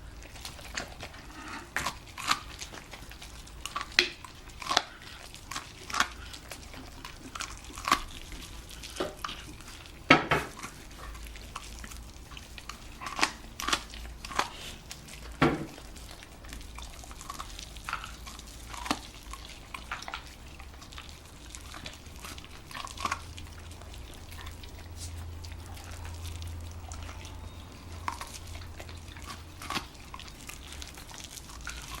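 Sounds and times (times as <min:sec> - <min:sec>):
dog gnawing on corncob: 0:00.0 - 0:32.0.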